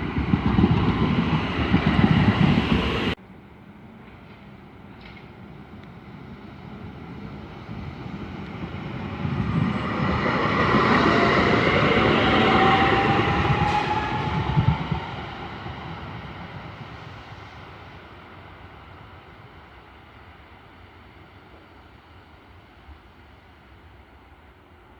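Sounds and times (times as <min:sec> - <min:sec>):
tram wheels rumbling on rails: 0:00.0 - 0:24.3.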